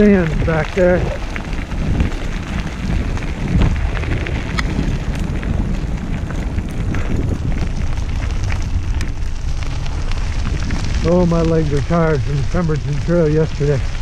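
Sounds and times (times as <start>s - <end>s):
stones popping and clicking: 0.0s - 11.8s
tyres crunching on gravel: 0.0s - 14.0s
wind rumble on microphone: 0.0s - 14.0s.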